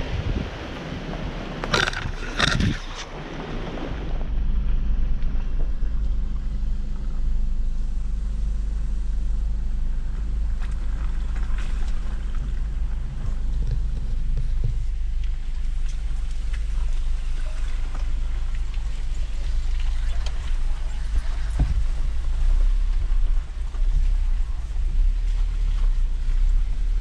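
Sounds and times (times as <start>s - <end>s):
wind buffeting microphone: 0.0s - 6.0s, 10.3s - 27.0s
vehicle engine and tyre rumble: 0.0s - 27.0s.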